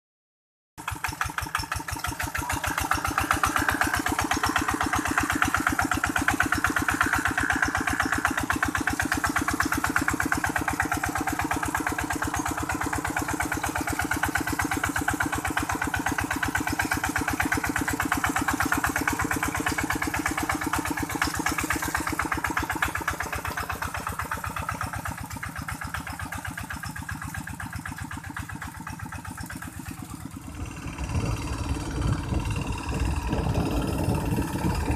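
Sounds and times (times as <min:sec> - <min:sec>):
tractor engine chugging: 0:00.8 - 0:34.9.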